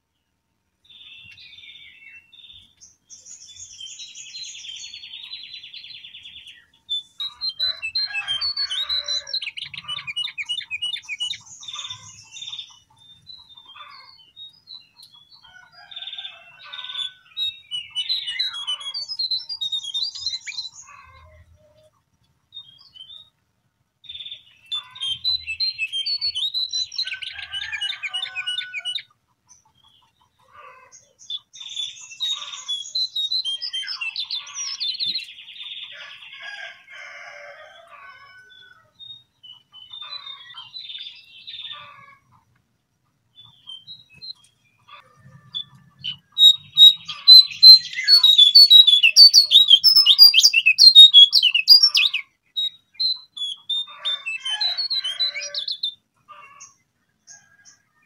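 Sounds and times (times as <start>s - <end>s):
bird twittering warbles and trills: 0.9s - 23.3s, 24.1s - 36.4s, 43.4s - 57.8s.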